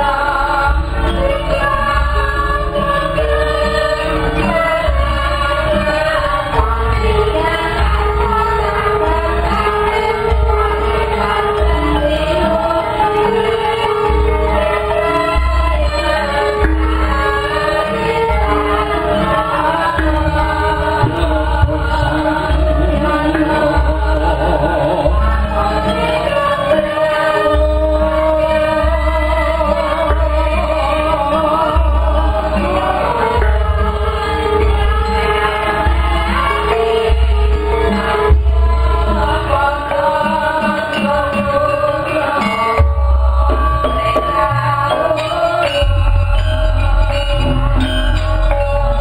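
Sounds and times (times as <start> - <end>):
gamelan gongs and metallophones: 0.0 - 49.0
person singing: 0.0 - 49.0.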